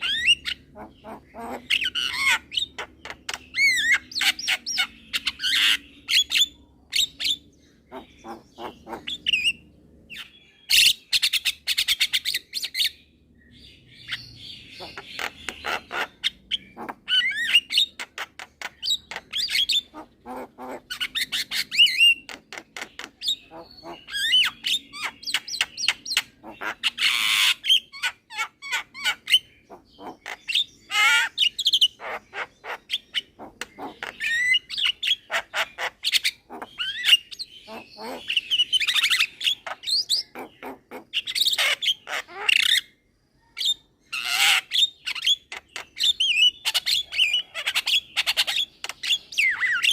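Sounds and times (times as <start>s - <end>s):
myna singing clicks and squawks: 0.0s - 13.0s, 14.0s - 49.9s.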